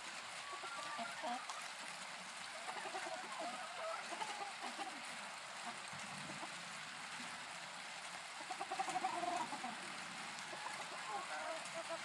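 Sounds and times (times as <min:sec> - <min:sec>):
background hiss: 0:00.0 - 0:12.0
chickens clucking: 0:00.4 - 0:06.6, 0:08.4 - 0:12.0.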